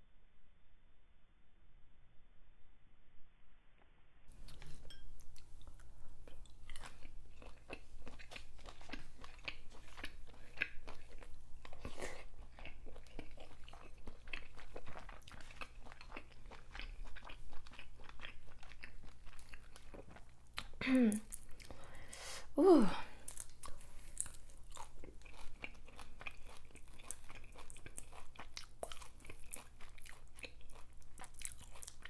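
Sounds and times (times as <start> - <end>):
person chewing food: 4.3 - 22.2, 23.2 - 32.0.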